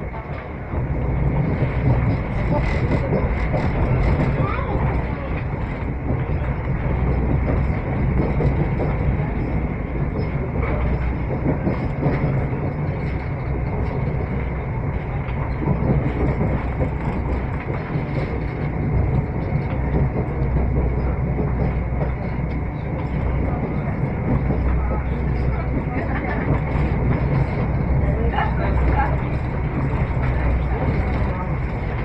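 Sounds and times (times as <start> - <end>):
train wheels running on rail: 0.0 - 32.0.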